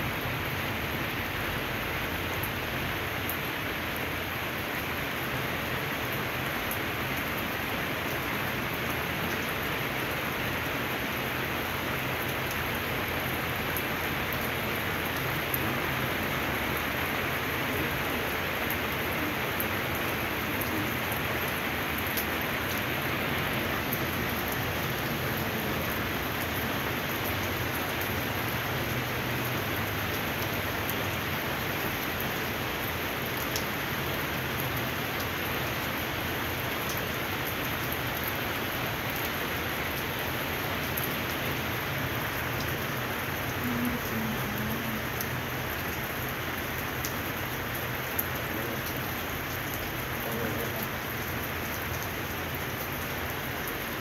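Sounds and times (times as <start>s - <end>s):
steady rain on pavement: 0.0s - 54.0s.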